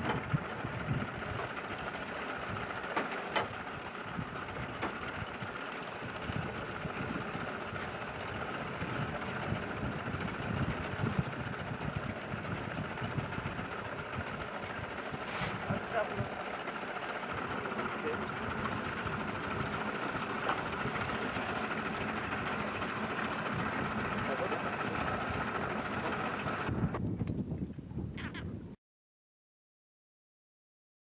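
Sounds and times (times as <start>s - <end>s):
outboard motor droning: 0.0s - 27.0s.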